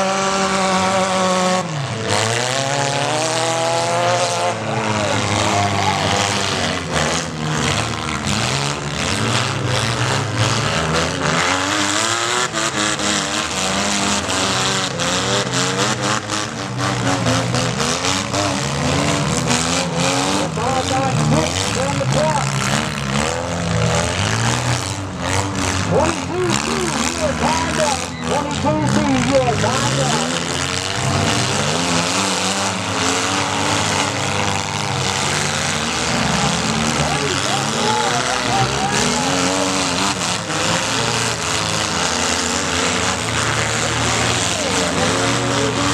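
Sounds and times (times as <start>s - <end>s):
small car engines revving: 0.0s - 45.9s.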